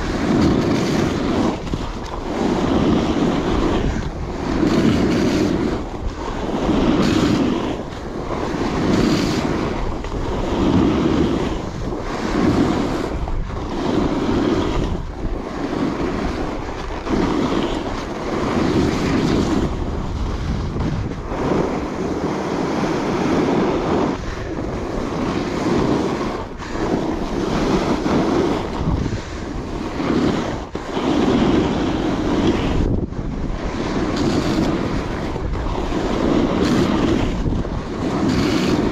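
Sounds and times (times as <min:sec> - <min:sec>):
snowboard edges carving snow: 0:00.0 - 0:38.9
wind rushing over microphone: 0:00.0 - 0:38.9.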